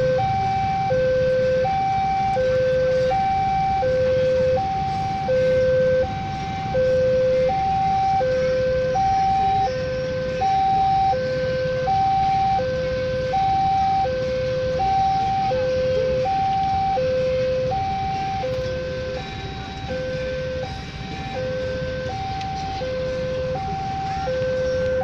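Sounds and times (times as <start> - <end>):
level crossing two-tone alarm: 0.0 - 25.0.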